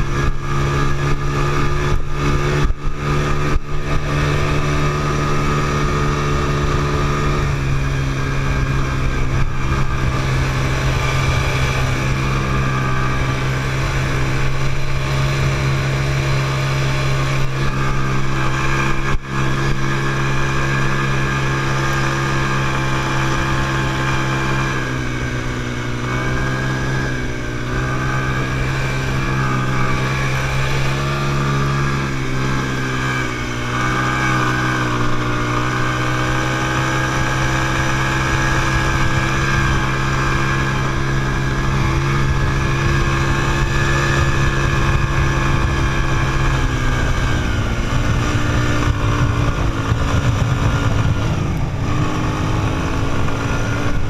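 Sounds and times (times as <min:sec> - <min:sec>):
quad bike engine running: 0:00.0 - 0:54.0
rough low rumble: 0:00.0 - 0:54.0.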